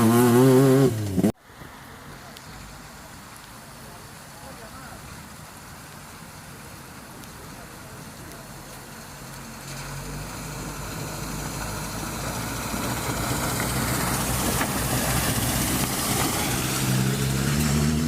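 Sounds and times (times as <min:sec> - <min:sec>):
hiss of wet road: 0:00.8 - 0:18.0.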